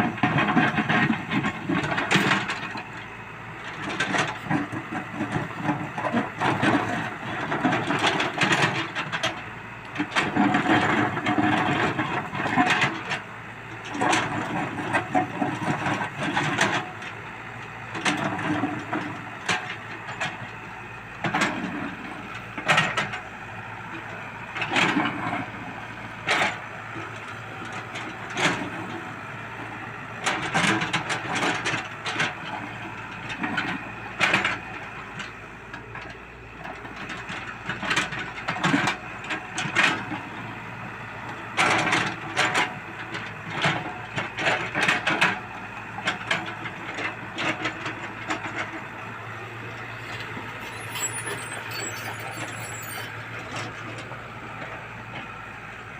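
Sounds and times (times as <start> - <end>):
excavator engine running: 0.0 - 55.9.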